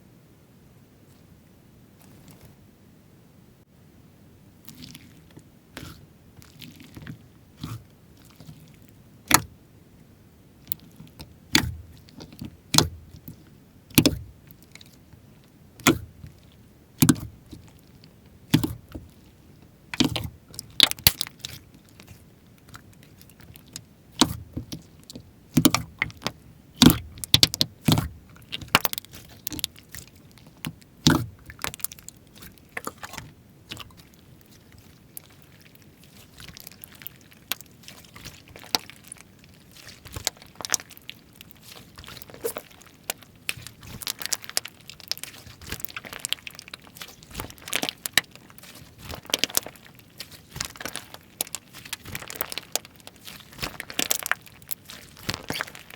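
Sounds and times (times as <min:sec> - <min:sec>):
slime popping and squelching: 0:04.7 - 0:09.5, 0:10.6 - 0:55.9.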